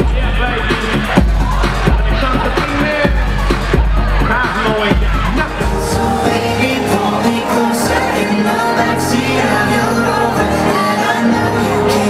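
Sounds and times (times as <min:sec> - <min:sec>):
pop music with singing: 0:00.0 - 0:12.0.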